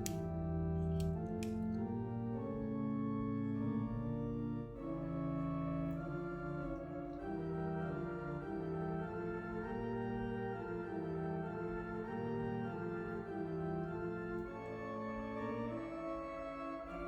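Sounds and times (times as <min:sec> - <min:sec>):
slow organ chords: 0:00.0 - 0:17.0.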